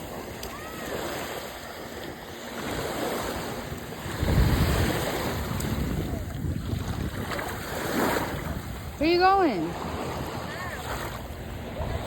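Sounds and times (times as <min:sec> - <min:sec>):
ocean surf washing on shore: 0:00.0 - 0:12.0
wind rumbling on microphone: 0:00.0 - 0:12.0.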